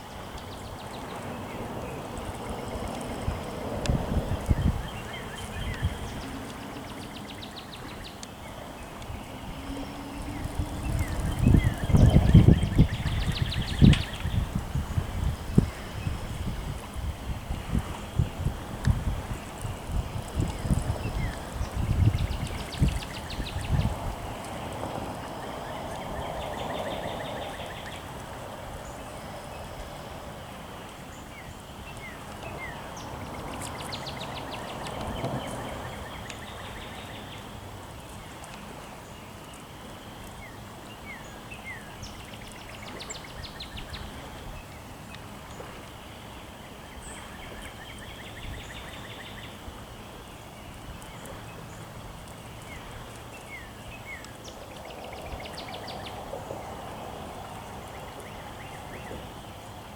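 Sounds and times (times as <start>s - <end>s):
outdoor background noise: 0.0s - 59.9s
birds singing: 0.1s - 16.4s, 19.3s - 28.1s, 31.0s - 59.9s.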